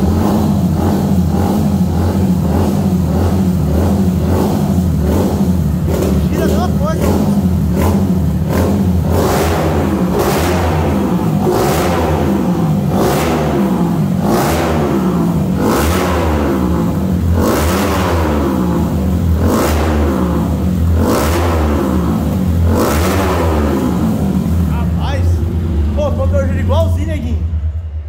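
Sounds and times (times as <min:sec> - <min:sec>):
motorcycle engine revving: 0:00.0 - 0:26.8.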